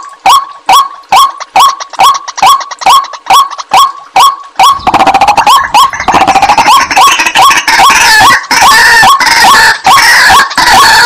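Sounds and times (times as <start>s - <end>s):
waterhen calls: 0.0s - 11.0s.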